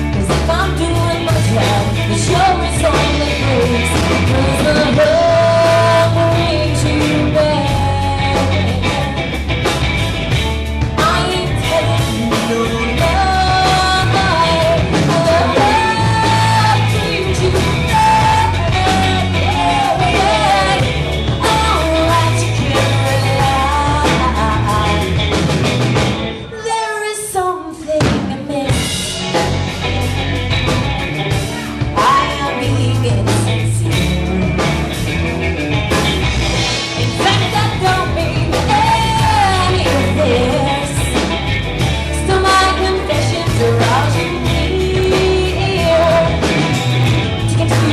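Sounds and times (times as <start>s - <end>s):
person singing: 0.0s - 9.4s, 11.0s - 25.5s, 31.4s - 35.2s, 37.0s - 47.9s
live rock band playing: 0.0s - 47.9s.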